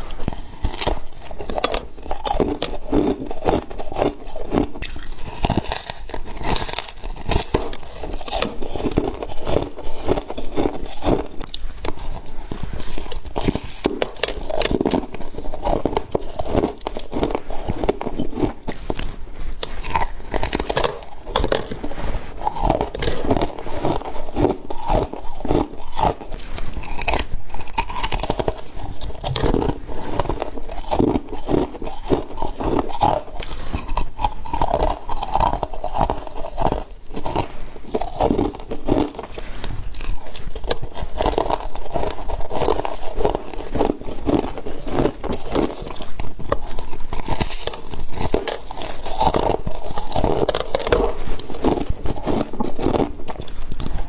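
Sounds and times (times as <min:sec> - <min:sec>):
crunching and chewing frost: 0:00.0 - 0:54.0.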